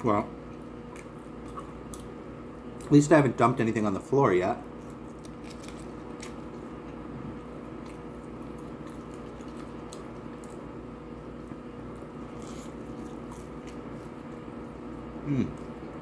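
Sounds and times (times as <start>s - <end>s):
low background hum: 0.0s - 16.0s
man chewing: 0.4s - 2.9s, 4.7s - 16.0s.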